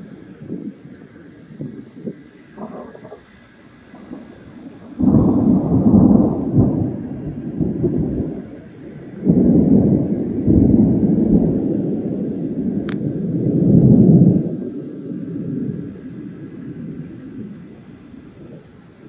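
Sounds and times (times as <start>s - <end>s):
thunder clap and rumbles: 0.0s - 19.0s.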